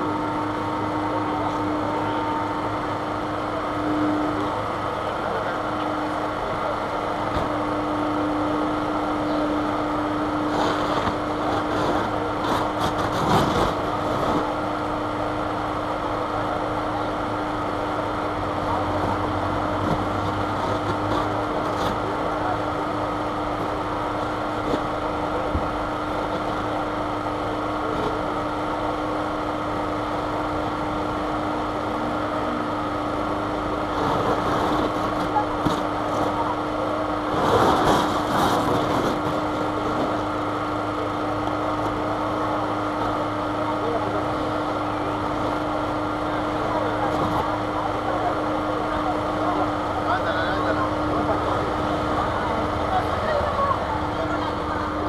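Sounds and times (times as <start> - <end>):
constant steady hum: 0.0 - 55.0
road traffic going by: 0.0 - 55.0.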